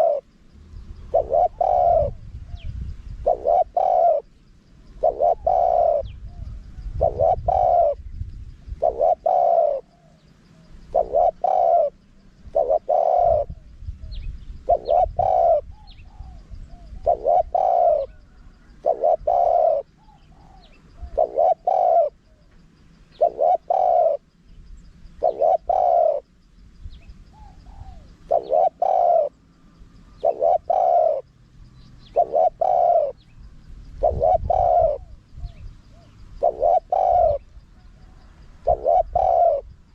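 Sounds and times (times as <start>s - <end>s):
dove cooing: 0.0s - 24.4s, 25.2s - 26.4s, 27.1s - 39.9s.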